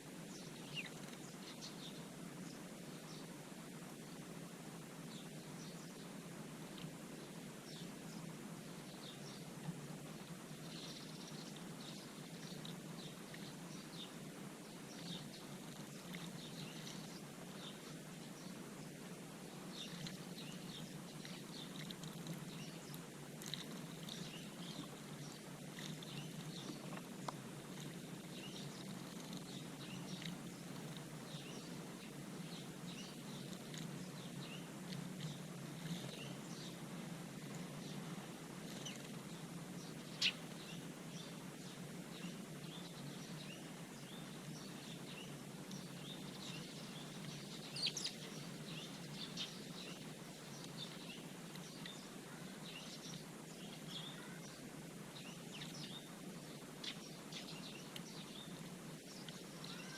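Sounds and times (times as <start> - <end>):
low background hum: 0.0 - 59.9
small birds chirping: 0.0 - 59.9.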